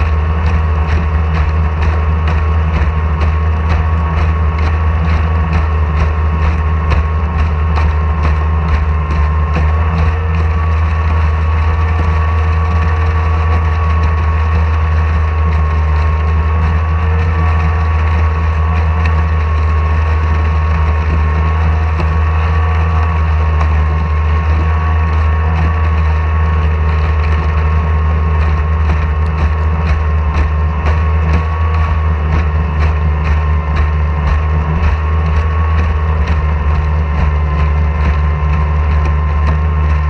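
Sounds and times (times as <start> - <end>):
outboard motor humming with whine: 0.0 - 40.0.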